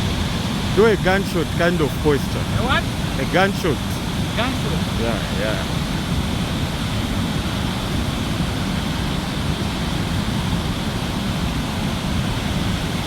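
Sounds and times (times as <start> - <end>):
waterfall roaring: 0.0 - 13.0
wind rumbling on microphone: 2.3 - 13.0.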